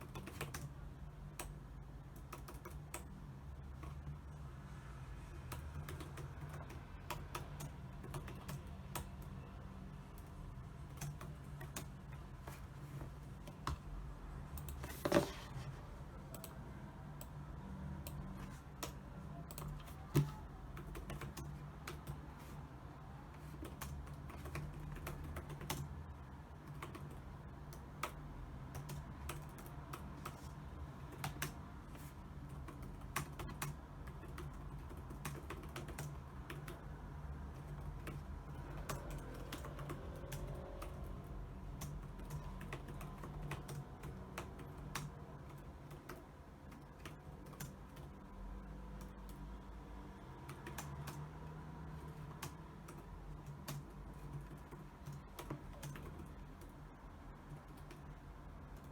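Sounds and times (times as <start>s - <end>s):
keyboard typing: 0.0s - 4.4s, 5.4s - 49.7s, 50.4s - 58.9s.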